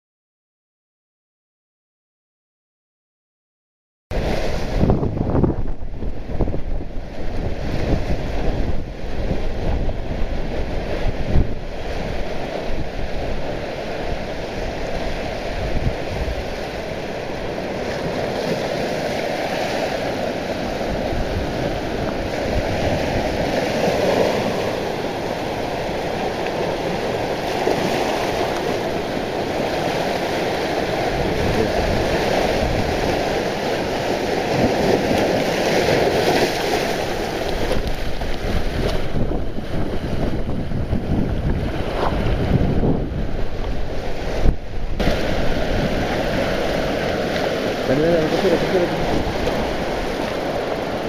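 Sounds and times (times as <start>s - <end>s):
wind buffeting microphone: 4.1s - 51.0s
waves washing over rocky shore: 4.2s - 51.0s.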